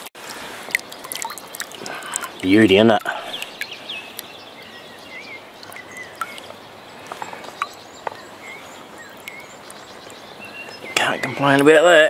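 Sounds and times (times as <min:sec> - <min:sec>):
stream water flowing: 0:00.0 - 0:12.0
small birds chirping and whistling: 0:00.9 - 0:12.0.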